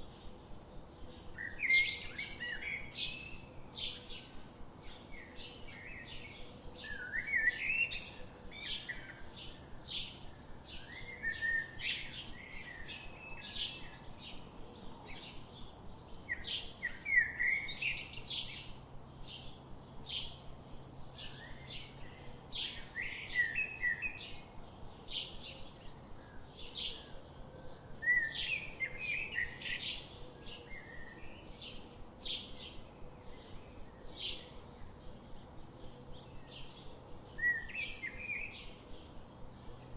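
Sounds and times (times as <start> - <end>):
songbirds chirping: 0.0 - 39.9
warbled bird song phrases: 0.0 - 39.9.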